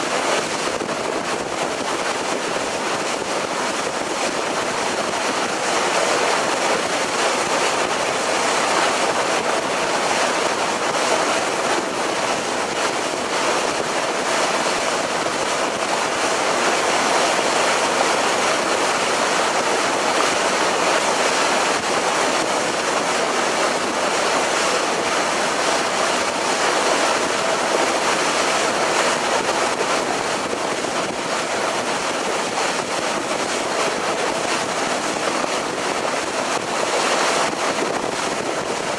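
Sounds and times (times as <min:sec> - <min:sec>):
water rushing past hull: 0:00.0 - 0:38.9.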